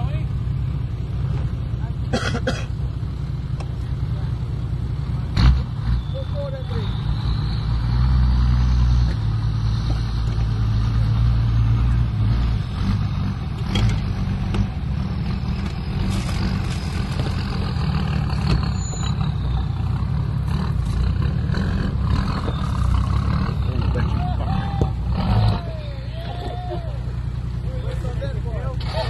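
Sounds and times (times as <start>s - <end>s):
engine running under load: 0.0s - 29.0s.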